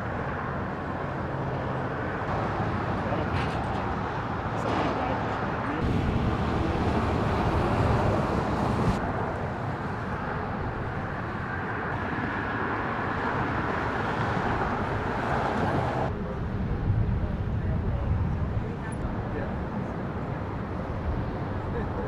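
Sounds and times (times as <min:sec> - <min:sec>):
road traffic rushing past: 0:00.0 - 0:22.0.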